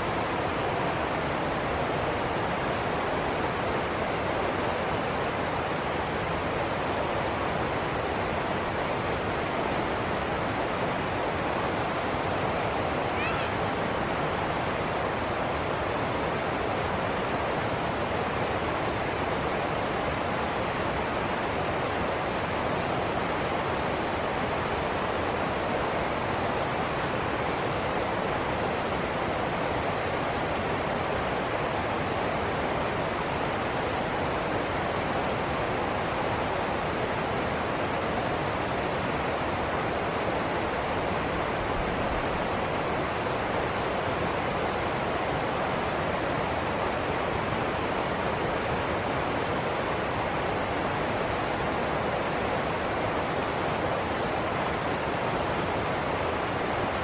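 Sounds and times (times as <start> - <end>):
river rushing over rocks: 0.0 - 57.0.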